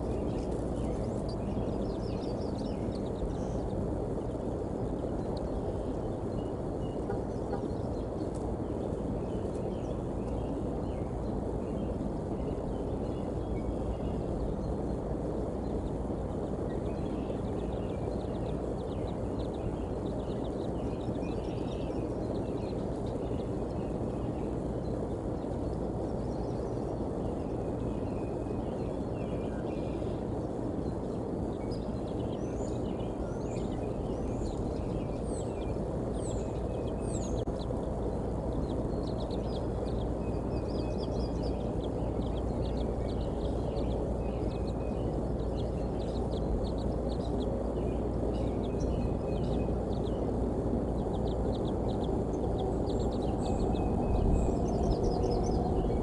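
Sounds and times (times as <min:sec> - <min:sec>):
birds chirping and trilling: 0:00.0 - 0:56.0
low outdoor rumble: 0:00.0 - 0:56.0.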